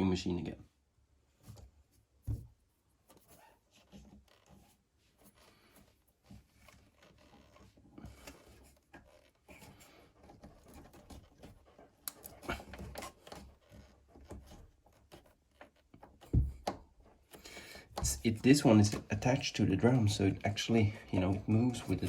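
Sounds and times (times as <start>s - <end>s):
hands scraping plastic parts: 3.1s - 22.0s.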